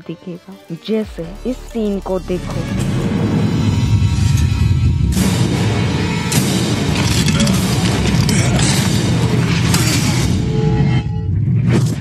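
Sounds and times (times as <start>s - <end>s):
loud cinematic music: 0.0s - 12.0s.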